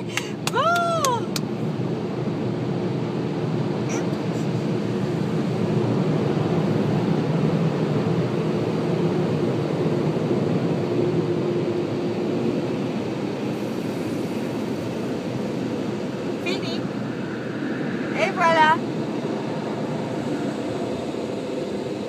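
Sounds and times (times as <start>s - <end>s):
air dryers blowing: 3.5s - 22.0s.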